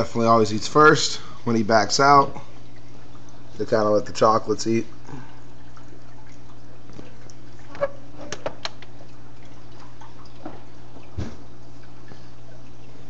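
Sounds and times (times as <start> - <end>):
aquarium filter humming: 0.0 - 13.0
water trickling: 0.0 - 13.0.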